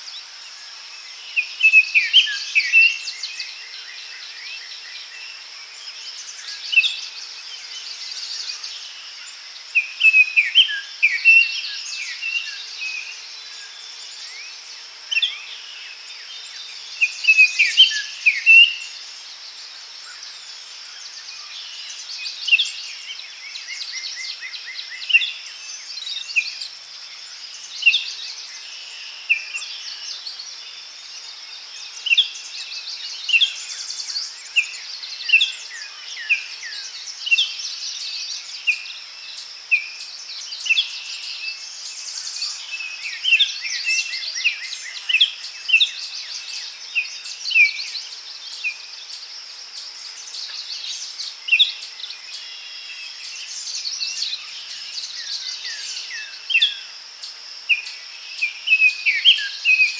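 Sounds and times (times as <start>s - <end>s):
insects droning: 0.0s - 59.9s
small birds chirping: 0.0s - 59.9s.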